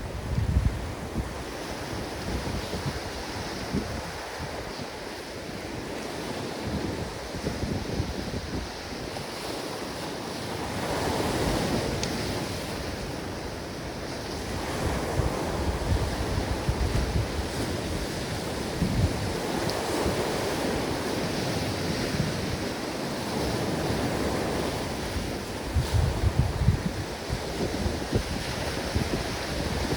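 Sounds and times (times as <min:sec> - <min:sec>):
ocean waves washing onto beach: 0:00.0 - 0:29.9
wind buffeting microphone: 0:00.0 - 0:29.9.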